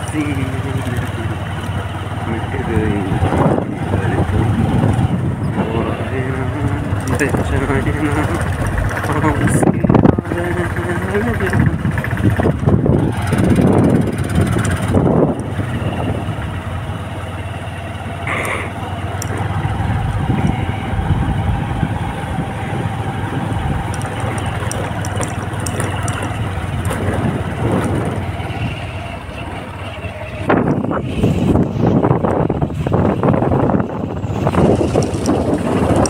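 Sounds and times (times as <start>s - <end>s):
road noise: 0.0s - 36.0s
vehicle engine running: 0.0s - 36.0s.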